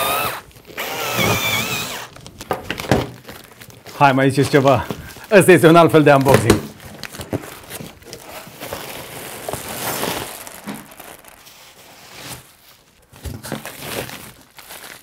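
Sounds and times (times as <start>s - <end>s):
packaging tearing: 0.0s - 15.0s
packaging crinkling: 0.4s - 0.8s, 1.9s - 15.0s.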